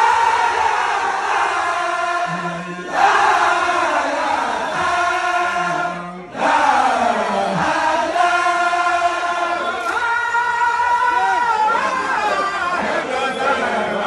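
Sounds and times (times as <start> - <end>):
crowd chanting in unison: 0.0 - 14.0.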